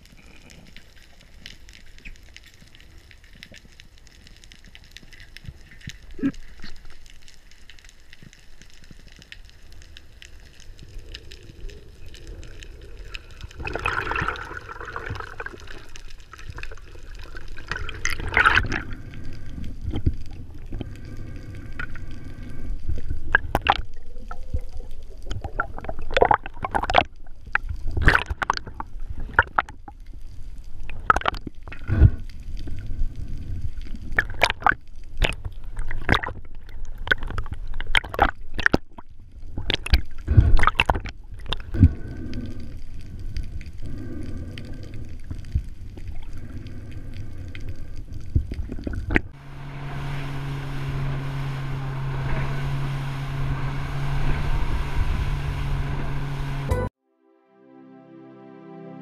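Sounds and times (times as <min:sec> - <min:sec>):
underwater rushing and gurgling: 0:00.0 - 0:56.9.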